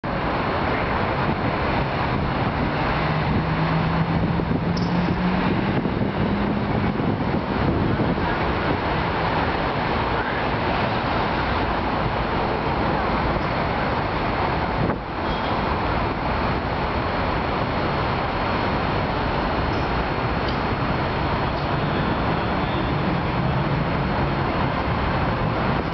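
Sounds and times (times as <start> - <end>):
road traffic: 0.0 - 25.9
vehicle engine hum rising: 0.1 - 25.9.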